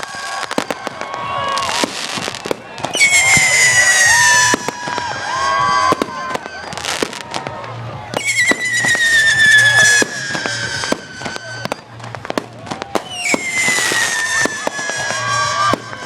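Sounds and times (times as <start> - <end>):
firework whistles falling in pitch: 0.0 - 7.5, 8.1 - 16.0
firework cracks and bangs: 0.0 - 16.0.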